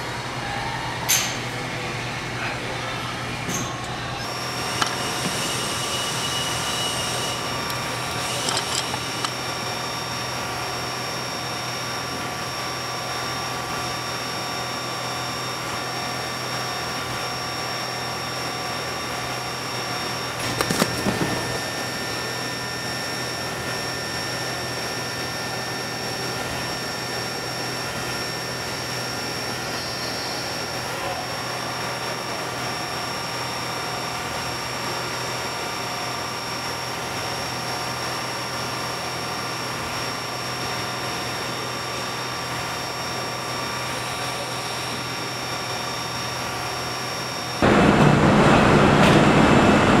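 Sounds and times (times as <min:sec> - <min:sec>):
factory machinery humming: 0:00.0 - 0:50.0.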